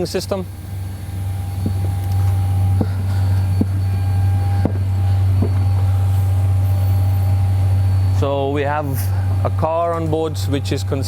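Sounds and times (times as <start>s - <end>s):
faint whine: 0.0s - 11.0s
low machine hum: 0.0s - 11.0s.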